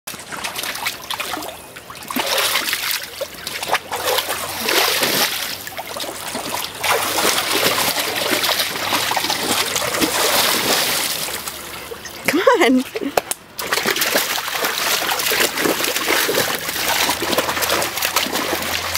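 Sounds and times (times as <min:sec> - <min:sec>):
dog splashing water: 0:00.1 - 0:18.9.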